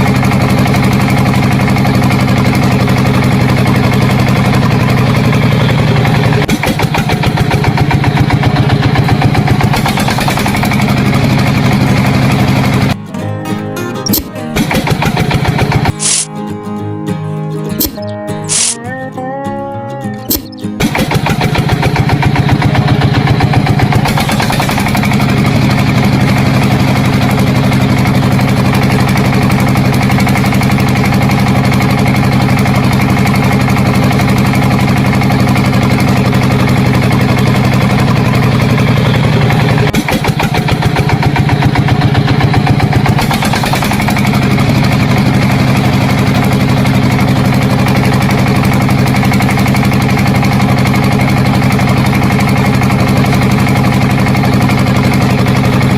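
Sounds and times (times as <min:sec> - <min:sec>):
small engine running: 0:00.0 - 0:13.2, 0:14.0 - 0:16.4, 0:17.7 - 0:18.8, 0:20.0 - 0:55.9.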